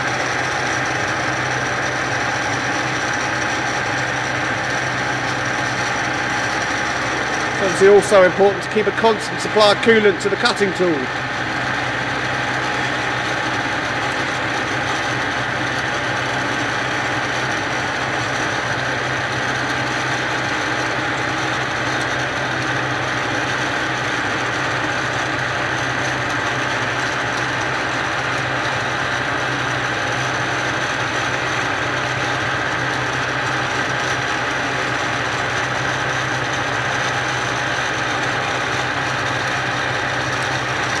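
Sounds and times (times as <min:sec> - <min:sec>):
milling machine running and cutting: 0:00.0 - 0:41.0.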